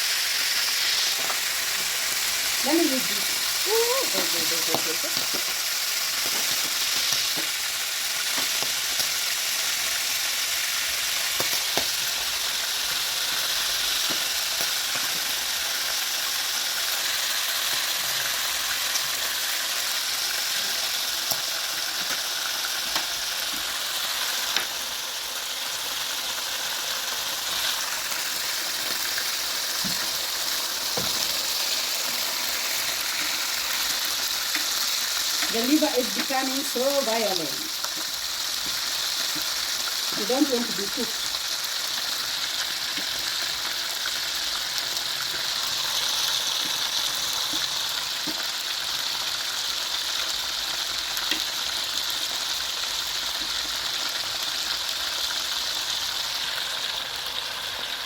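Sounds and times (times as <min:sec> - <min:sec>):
liver deep frying in oil: 0:00.0 - 0:58.0.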